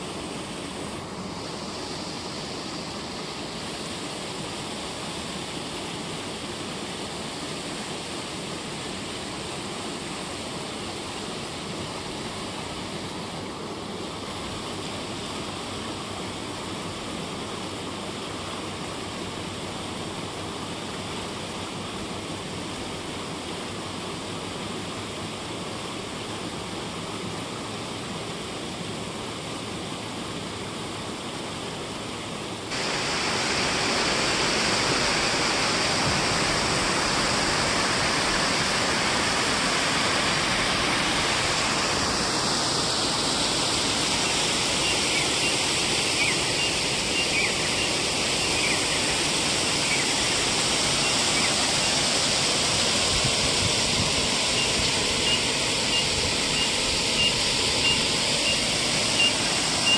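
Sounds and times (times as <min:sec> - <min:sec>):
water rushing from weir: 0:00.0 - 0:59.9.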